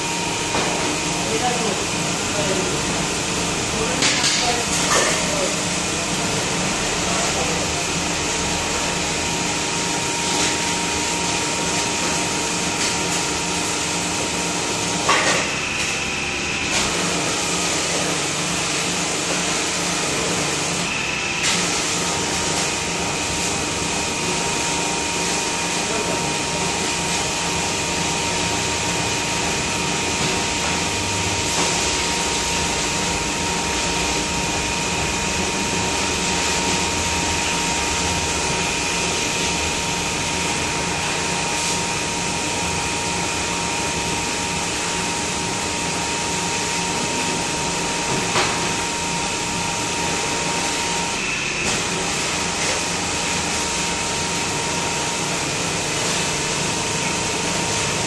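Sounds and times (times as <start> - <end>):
fan motor drone with high whine: 0.0 - 58.0.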